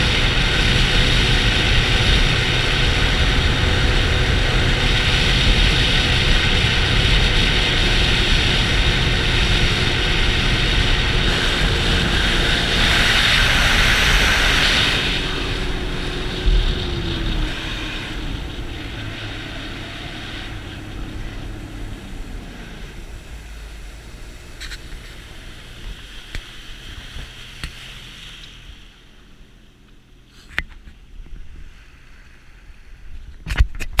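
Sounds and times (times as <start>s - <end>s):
jet ski engine: 0.0s - 34.0s.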